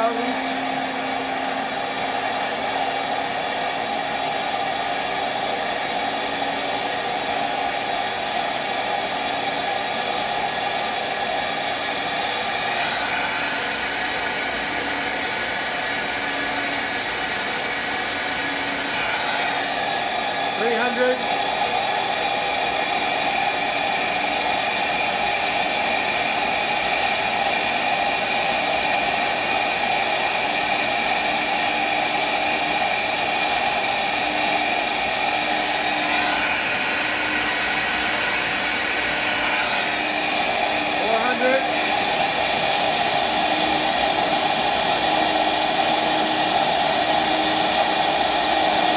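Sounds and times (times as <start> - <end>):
flow bench rushing air and motor: 0.0 - 48.9.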